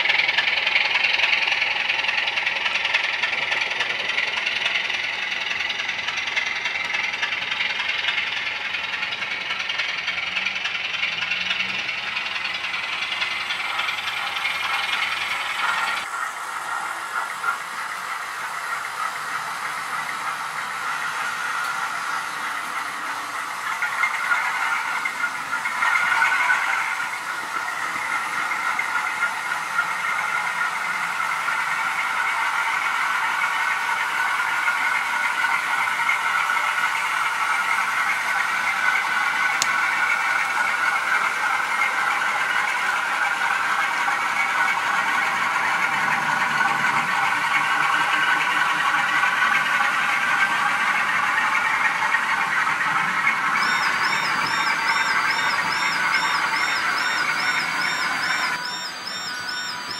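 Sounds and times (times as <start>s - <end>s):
model trains whirring and rattling: 0.0s - 59.9s.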